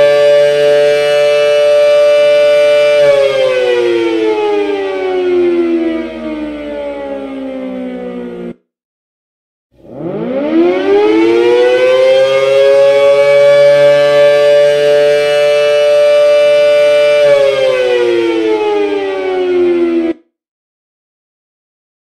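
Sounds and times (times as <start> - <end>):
siren wailing: 0.0 - 8.6, 9.8 - 20.3.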